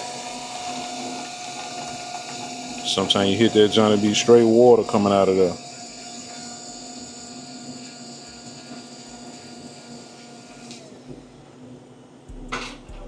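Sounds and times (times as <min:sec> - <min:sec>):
coffee machine motor whirring: 0:00.0 - 0:11.7.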